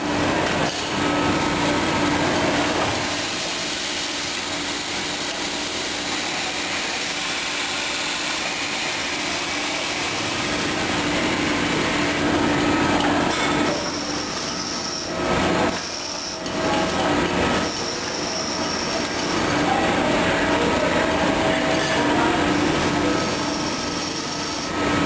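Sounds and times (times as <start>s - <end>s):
industrial machinery running: 0.0s - 25.0s.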